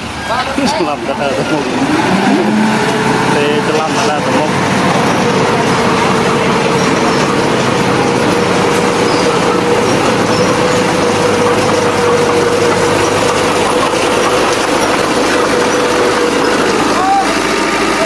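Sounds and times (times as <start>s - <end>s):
diesel engine running: 0.0s - 18.0s
steady whine: 0.0s - 18.0s.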